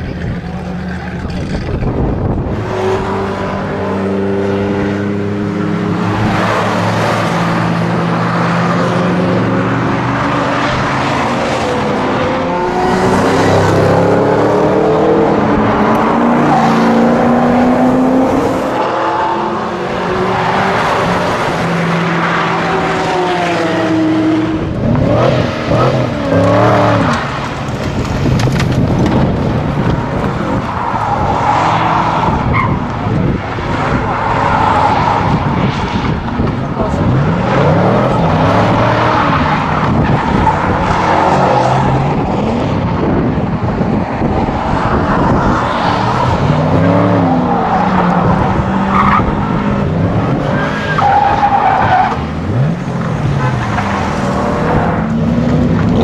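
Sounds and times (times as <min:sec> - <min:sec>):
sports car engines revving: 0:00.0 - 0:56.0.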